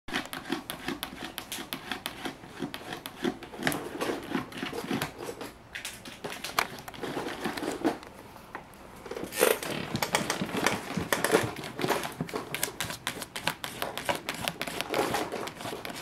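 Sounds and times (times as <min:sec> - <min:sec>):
cat claws scratching plastic: 0:00.1 - 0:08.0, 0:09.4 - 0:16.0.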